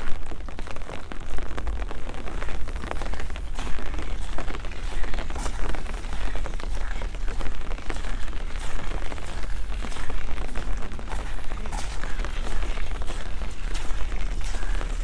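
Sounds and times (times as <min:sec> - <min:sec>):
rain pattering: 0:00.0 - 0:15.0
low rumble: 0:00.3 - 0:15.0.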